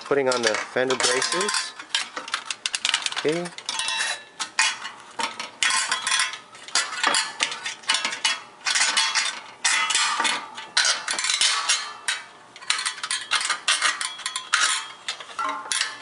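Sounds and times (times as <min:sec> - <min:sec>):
metal hardware clinking: 0:00.0 - 0:16.0.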